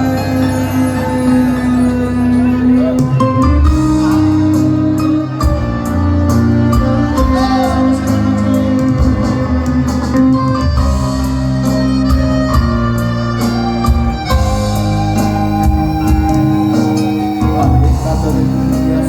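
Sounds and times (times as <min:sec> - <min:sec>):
bass line: 0:00.0 - 0:19.0
live band music: 0:00.0 - 0:19.0
sustained keyboard chords: 0:00.0 - 0:19.0
steady drum beat: 0:03.1 - 0:19.0.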